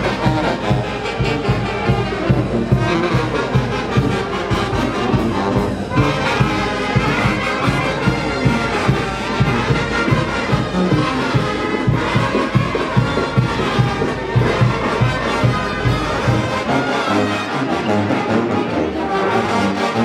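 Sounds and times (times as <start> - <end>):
brass band playing dance music: 0.0 - 20.0.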